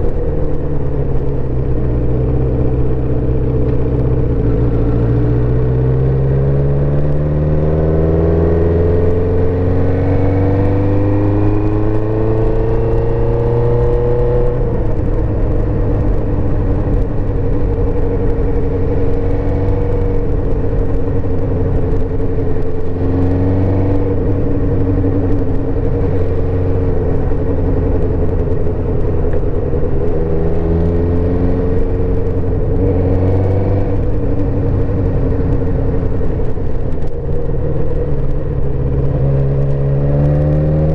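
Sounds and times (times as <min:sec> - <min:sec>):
motorcycle engine accelerating: 0:00.0 - 0:40.9
road and wind noise: 0:00.0 - 0:40.9.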